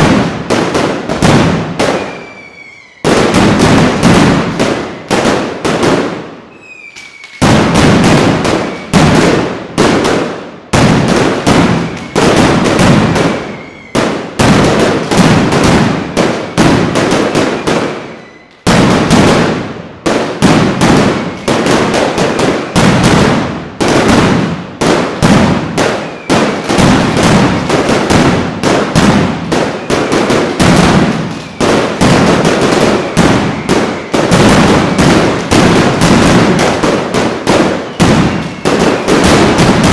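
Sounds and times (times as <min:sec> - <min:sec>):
firecracker barrage: 0:00.0 - 0:39.9.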